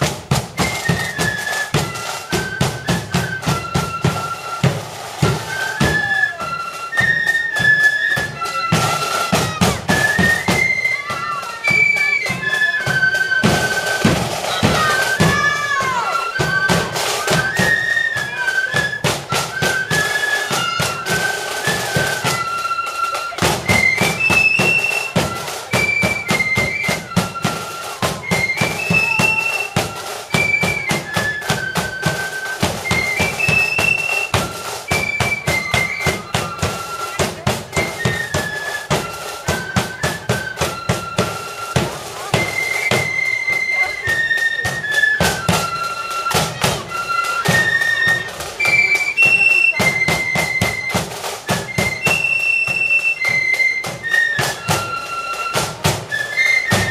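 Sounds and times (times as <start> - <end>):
flute band playing: 0.0 - 56.9
marching drum beat: 0.0 - 56.9.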